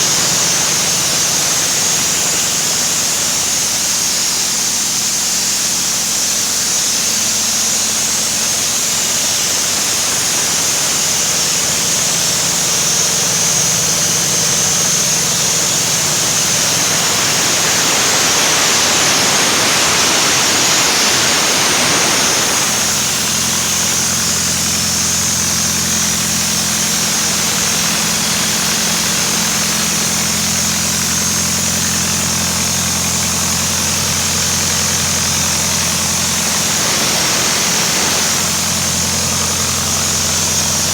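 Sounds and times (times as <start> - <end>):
rushing hiss: 0.0 - 4.6, 8.9 - 40.9
diesel air compressor running: 0.0 - 40.9.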